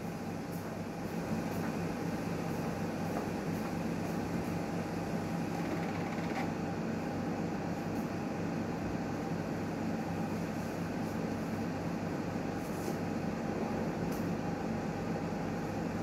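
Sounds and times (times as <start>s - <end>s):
autoclave machine hum: 0.0s - 16.0s.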